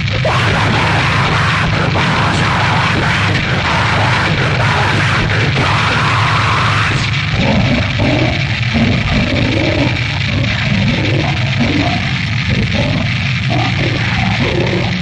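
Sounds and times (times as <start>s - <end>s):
death metal music: 0.0s - 15.0s
guttural growled vocals: 0.0s - 15.0s.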